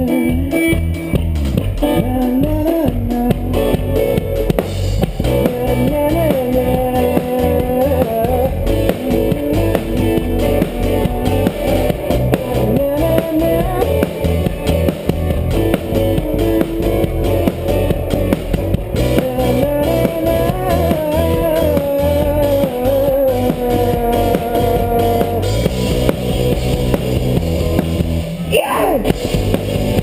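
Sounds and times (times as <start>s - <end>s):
electric guitar bending notes: 0.0s - 30.0s
live rock band: 0.0s - 30.0s.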